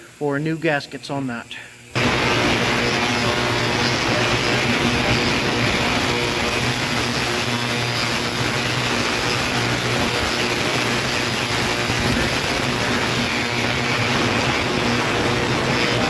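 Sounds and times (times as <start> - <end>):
electrical hum: 0.0 - 16.0
machine hiss: 0.0 - 16.0.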